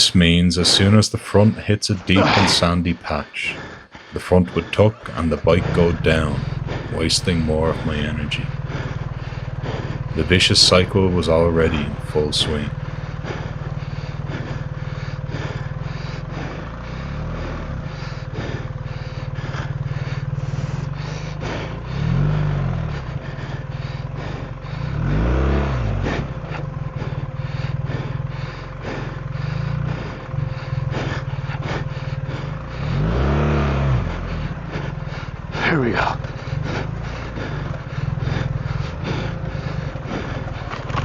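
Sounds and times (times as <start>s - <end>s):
motorcycle engine running: 3.6s - 41.0s.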